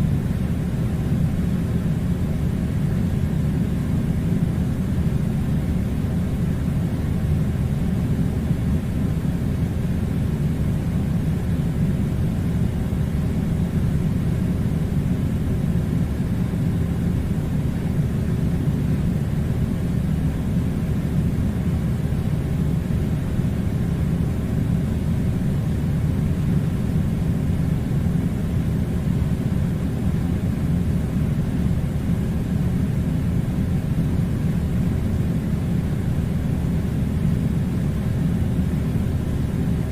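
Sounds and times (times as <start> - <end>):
air conditioner rumble: 0.0 - 39.9.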